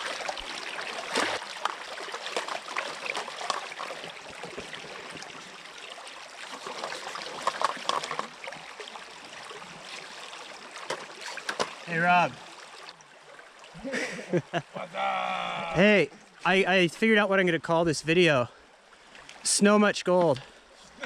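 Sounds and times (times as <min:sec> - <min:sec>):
creek water trickling: 0:00.0 - 0:21.0.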